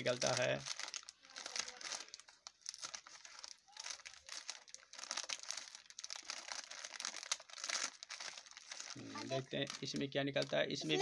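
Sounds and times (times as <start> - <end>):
snack packet crinkling: 0.0 - 11.0.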